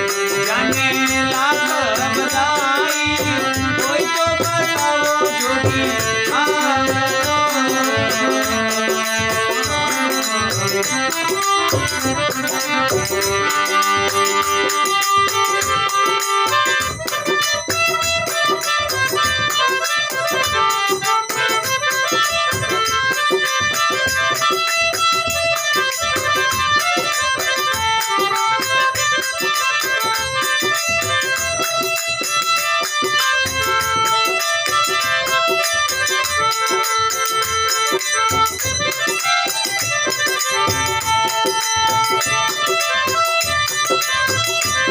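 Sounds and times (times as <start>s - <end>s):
hand drum percussion: 0.0s - 44.9s
keyboard melody: 0.0s - 44.9s.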